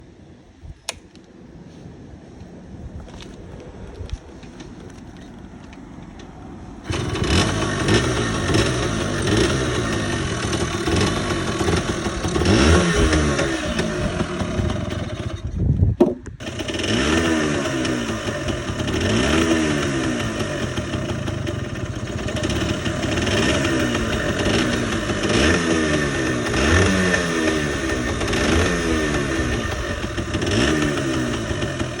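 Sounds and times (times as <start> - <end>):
two-stroke engine throttle blips: 6.2 - 32.0.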